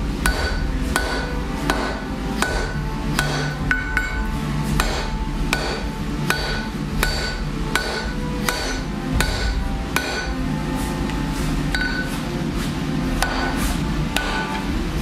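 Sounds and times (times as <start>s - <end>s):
hammer striking metal on anvil: 0.2s - 10.4s, 11.7s - 12.2s, 13.2s - 14.7s.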